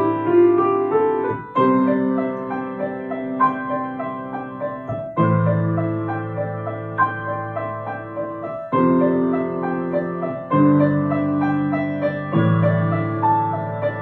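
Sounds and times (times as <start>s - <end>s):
solo piano piece: 0.0s - 14.0s.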